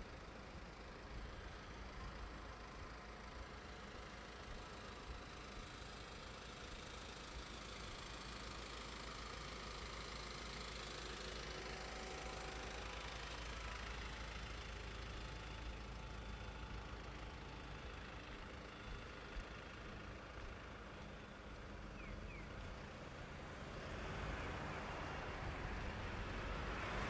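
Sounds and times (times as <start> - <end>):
faint engine noise: 0.0 - 27.0
road traffic hum: 0.0 - 27.0.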